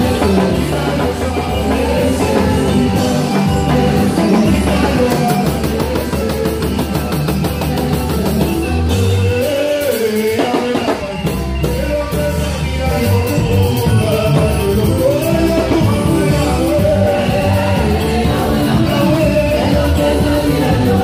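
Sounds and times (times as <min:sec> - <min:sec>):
person singing: 0:00.0 - 0:21.0
praise band playing live: 0:00.0 - 0:21.0.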